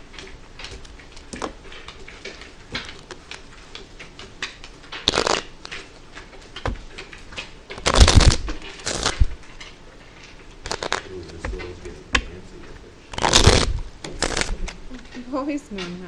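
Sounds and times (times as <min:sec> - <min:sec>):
playing cards being shuffled: 0:00.0 - 0:16.0.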